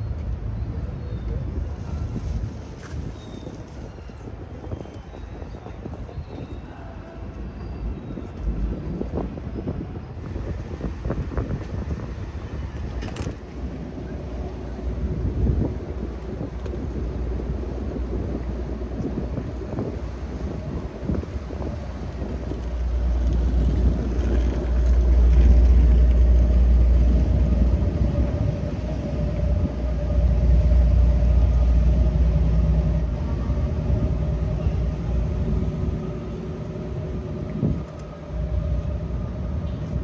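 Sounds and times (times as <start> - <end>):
metro train rumbling over bridge: 0.0 - 40.0.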